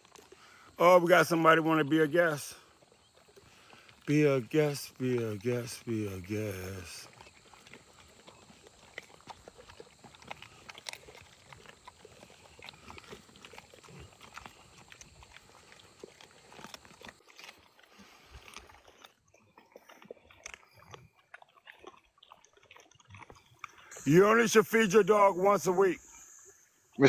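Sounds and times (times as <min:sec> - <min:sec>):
dogs crunching bones: 0:00.0 - 0:00.8, 0:02.6 - 0:24.6.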